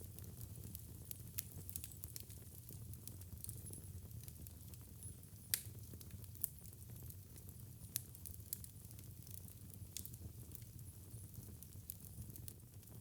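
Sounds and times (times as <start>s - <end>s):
wood fire crackling and popping: 0.1s - 13.0s.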